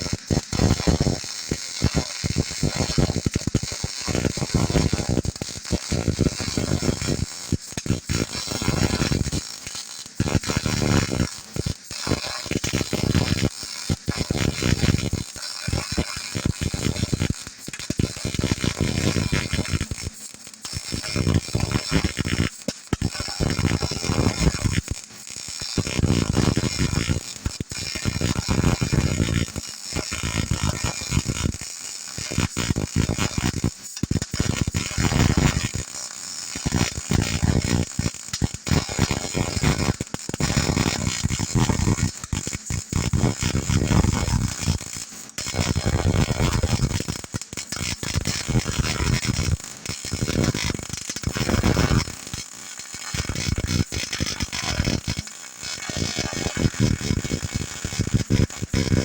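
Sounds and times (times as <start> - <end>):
welding arc buzzing: 0.0 - 59.0.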